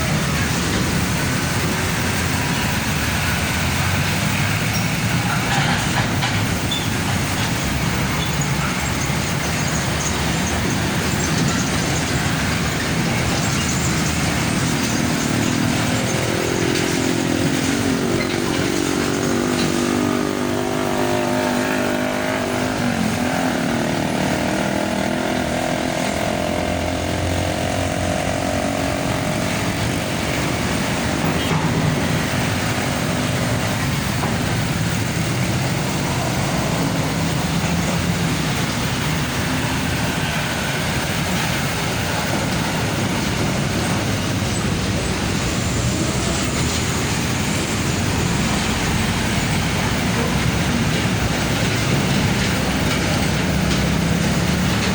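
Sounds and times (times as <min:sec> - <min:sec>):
trucks passing: 0:00.0 - 0:54.9.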